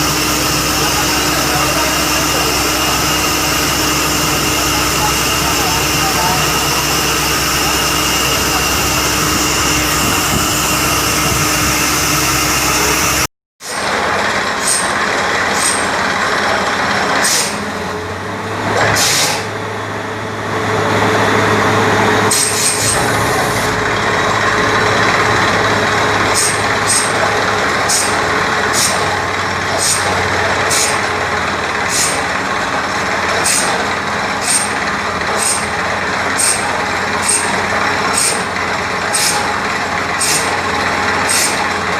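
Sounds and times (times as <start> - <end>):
drilling rig running: 0.0 - 41.9.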